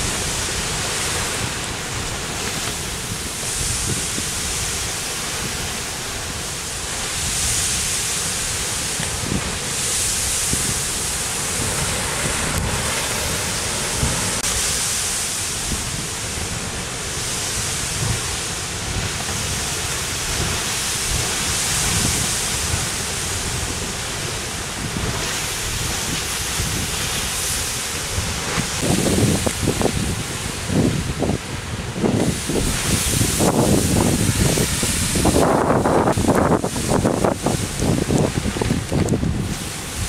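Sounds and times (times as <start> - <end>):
rushing hiss of steam and surf: 0.0 - 40.0
wind on microphone: 0.0 - 40.0.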